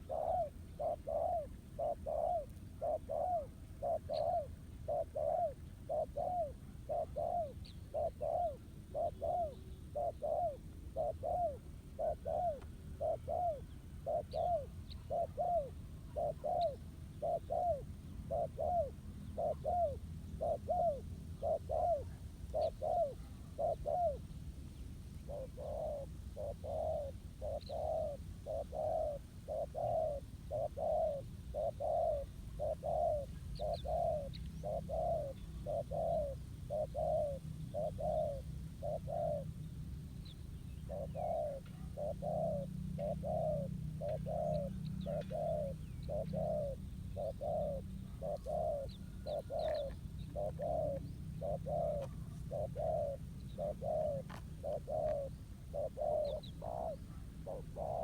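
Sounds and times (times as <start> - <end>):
faint high bird chirps: 0.0 - 24.2, 24.8 - 39.5, 40.2 - 58.0
dove cooing: 0.0 - 24.4, 25.2 - 39.6, 40.7 - 58.0.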